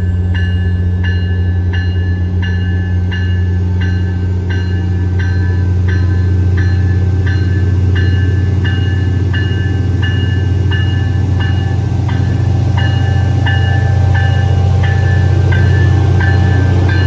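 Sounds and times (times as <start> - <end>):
train bell ringing: 0.0 - 17.0
train diesel rumble: 0.0 - 17.0.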